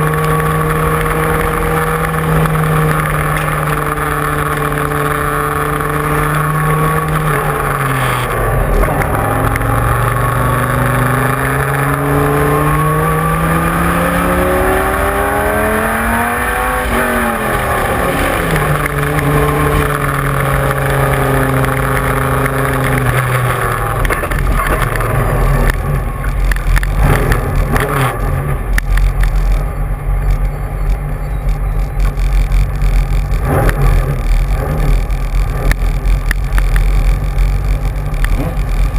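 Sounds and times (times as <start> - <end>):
racing car engine revving: 0.0 - 29.6, 31.8 - 38.9.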